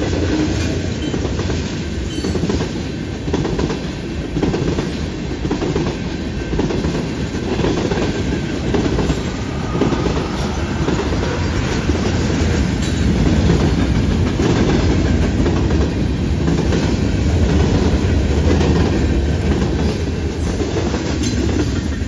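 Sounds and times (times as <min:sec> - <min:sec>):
train wheels rumbling on rail: 0:00.0 - 0:22.0
wheels clickety-clack over rail joints: 0:00.0 - 0:22.0.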